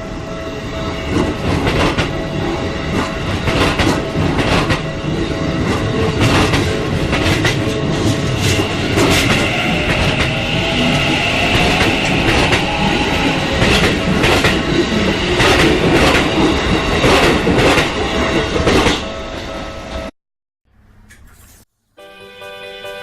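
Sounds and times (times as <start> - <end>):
train rumbling past: 0.0 - 20.1.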